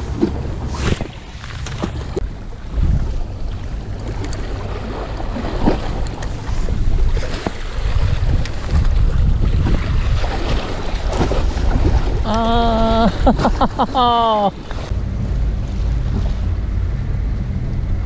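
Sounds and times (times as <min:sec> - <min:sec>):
sea water washing on shore: 0:00.0 - 0:16.5
wind rumbling on microphone: 0:00.0 - 0:18.0.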